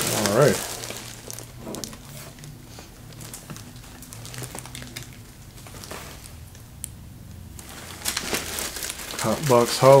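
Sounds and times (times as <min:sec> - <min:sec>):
plastic wrapping crinkling: 0:00.0 - 0:06.6, 0:07.5 - 0:10.0
low steady hum: 0:00.0 - 0:10.0.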